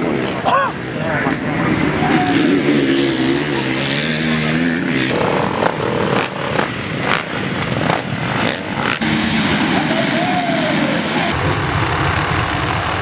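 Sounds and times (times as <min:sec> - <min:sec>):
motocross bike engines revving: 0:00.0 - 0:11.4.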